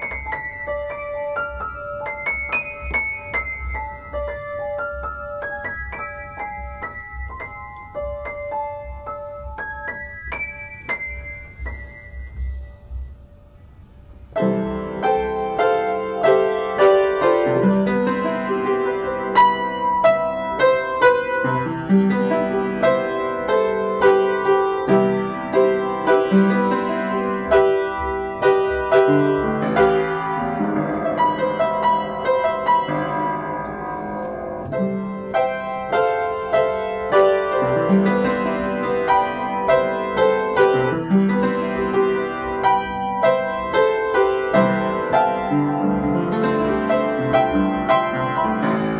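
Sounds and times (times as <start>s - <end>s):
upright piano melody over chords: 0.0s - 48.9s.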